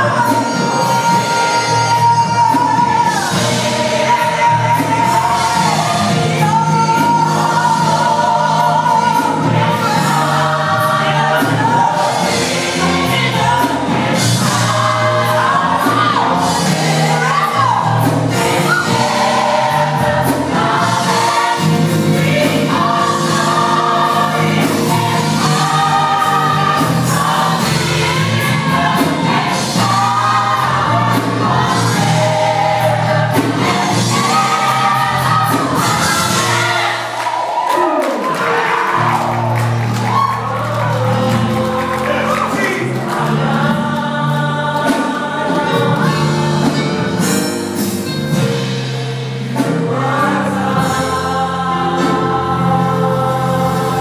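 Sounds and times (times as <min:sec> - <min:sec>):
gospel choir singing: 0:00.0 - 0:54.0
instrumental accompaniment: 0:00.0 - 0:54.0.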